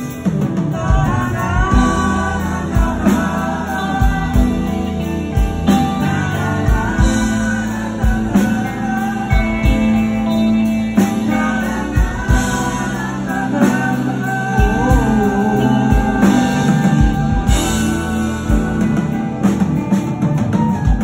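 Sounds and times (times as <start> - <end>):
bass and drums: 0.0 - 21.0.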